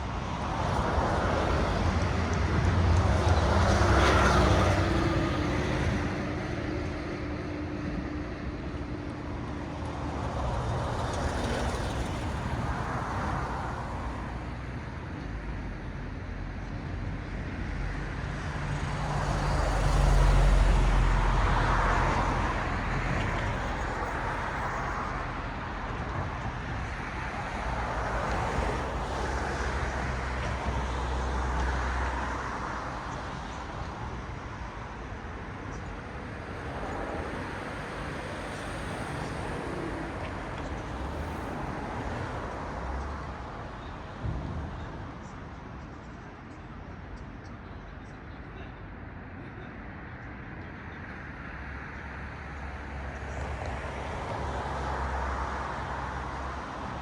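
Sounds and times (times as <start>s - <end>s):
cars passing: 0.0s - 15.6s, 18.1s - 57.0s.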